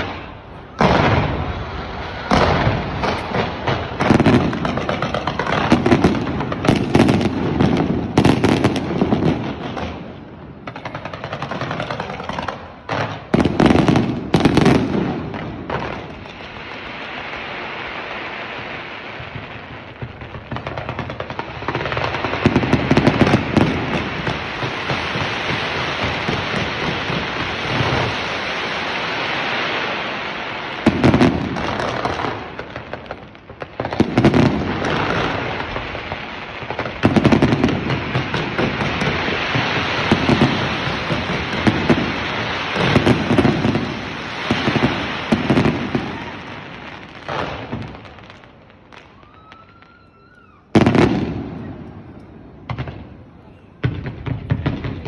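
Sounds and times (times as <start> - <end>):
fireworks bangs: 0.0 - 55.0
fireworks crackling: 0.0 - 55.0.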